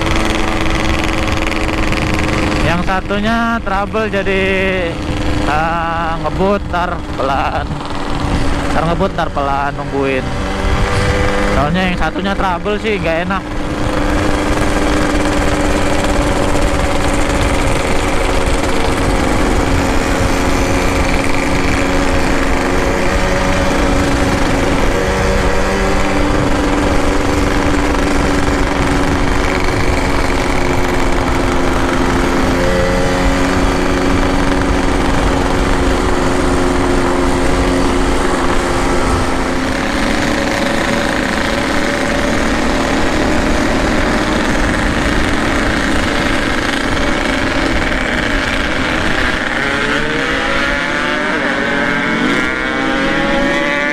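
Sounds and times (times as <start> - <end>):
two-stroke motorcycle engine running: 0.0 - 53.9.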